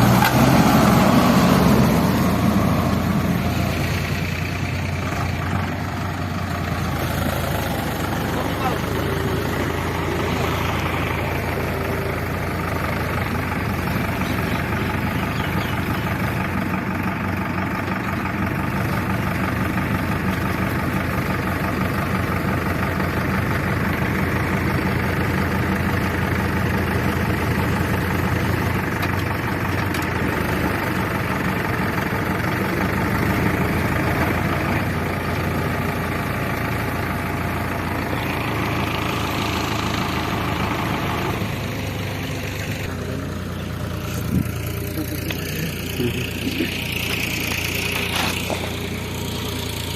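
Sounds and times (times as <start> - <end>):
diesel engine running low: 0.0 - 49.9.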